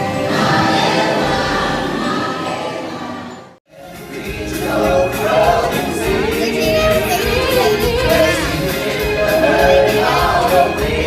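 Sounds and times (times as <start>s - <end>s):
choir singing with music: 0.0s - 11.0s.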